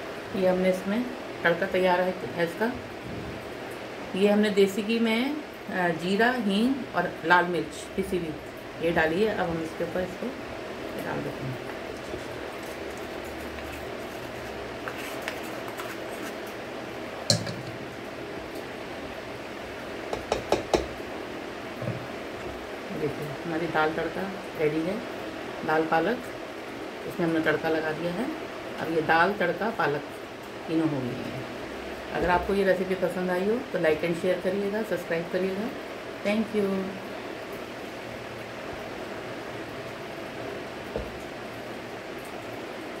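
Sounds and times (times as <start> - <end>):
room noise hiss: 0.0 - 43.0.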